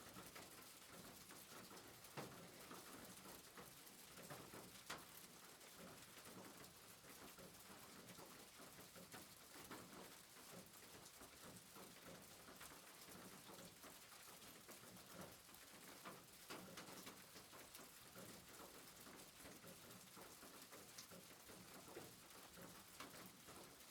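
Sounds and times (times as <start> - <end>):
rain pattering on a roof: 0.0 - 23.9.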